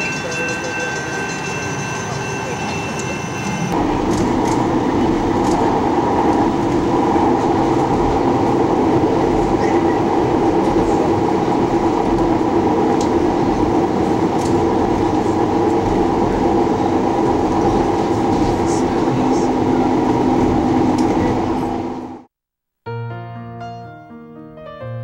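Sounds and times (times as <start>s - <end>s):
wheels clicking on track: 0.0s - 21.8s
light-rail car rumbling: 0.0s - 22.3s.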